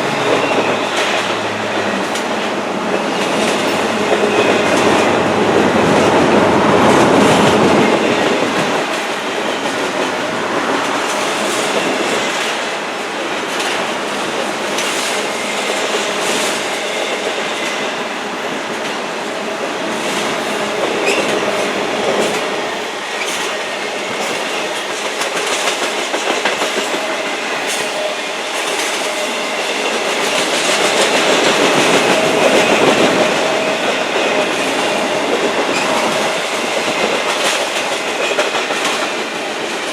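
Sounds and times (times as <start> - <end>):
train cars rolling past: 0.0 - 39.9.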